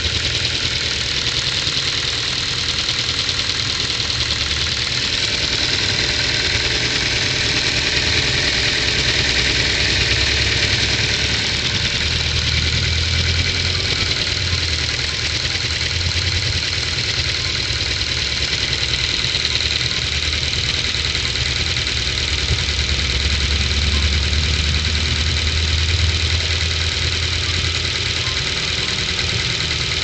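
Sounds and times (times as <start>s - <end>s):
petrol engine idling: 0.0s - 30.0s
valve train knocking: 0.0s - 30.0s.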